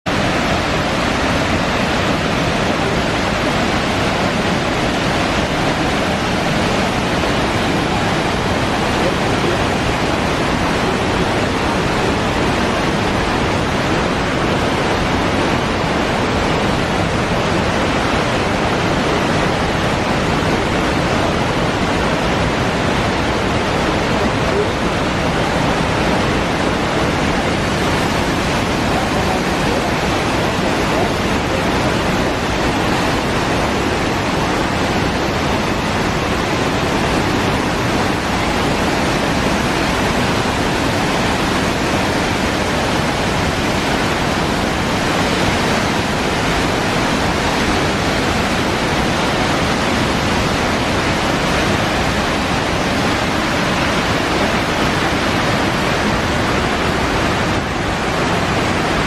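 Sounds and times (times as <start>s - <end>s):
waterfall rushing: 0.1s - 59.0s.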